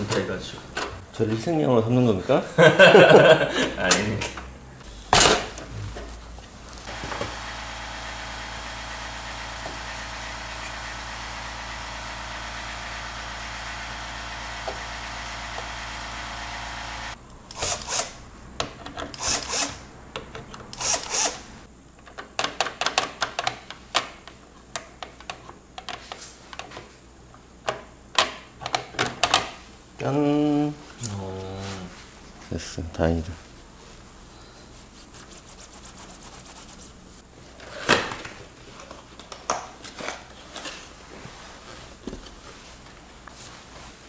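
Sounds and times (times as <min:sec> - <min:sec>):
steady hum with faint whine: 0:00.0 - 0:44.0.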